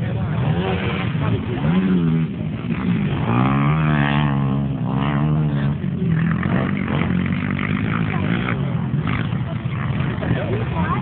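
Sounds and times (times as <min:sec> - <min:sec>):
racing engines droning: 0:00.0 - 0:11.0.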